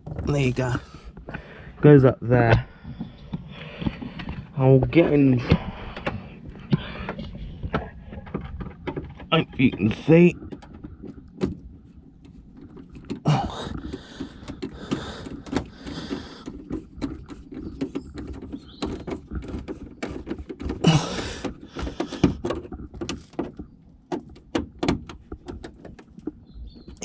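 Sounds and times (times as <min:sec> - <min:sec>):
plastic trim knocks and clicks: 0:02.5 - 0:27.0
plastic trim scraping and rustling: 0:02.5 - 0:27.0.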